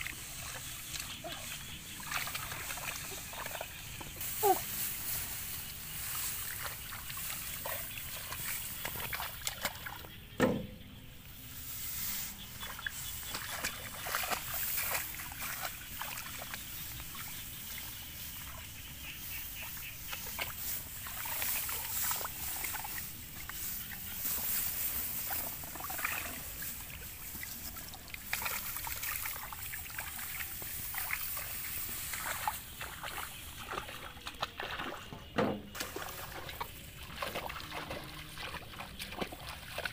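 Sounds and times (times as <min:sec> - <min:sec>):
rice plants rustling: 0:00.0 - 0:10.2, 0:11.2 - 0:39.9
shallow water splashing and trickling: 0:00.0 - 0:10.6, 0:11.2 - 0:39.9.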